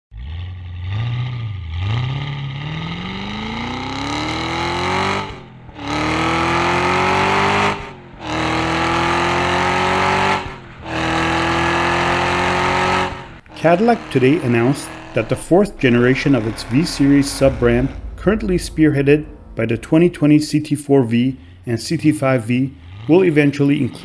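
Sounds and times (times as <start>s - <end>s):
car engine accelerating: 0.1s - 24.0s.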